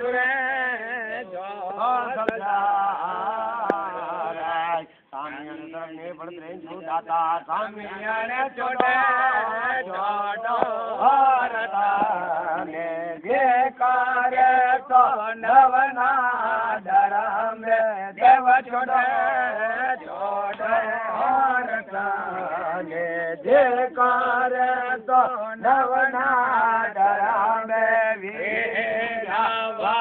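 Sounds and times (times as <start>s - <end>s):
man chanting: 0.0s - 30.0s.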